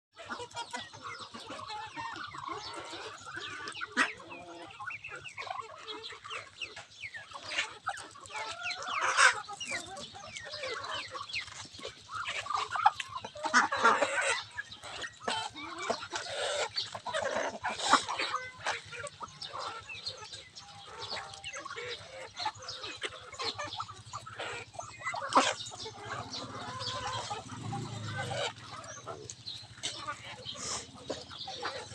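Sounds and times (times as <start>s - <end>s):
chickens clucking: 0.2s - 31.9s.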